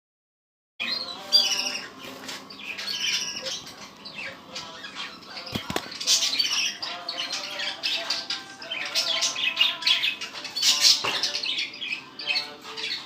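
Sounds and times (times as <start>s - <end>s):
budgerigars chattering and squawking: 0.8s - 13.0s.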